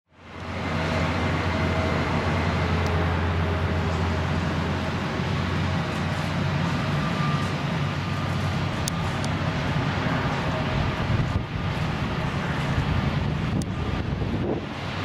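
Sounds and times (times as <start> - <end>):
jet engines at taxi power: 0.1 - 15.0.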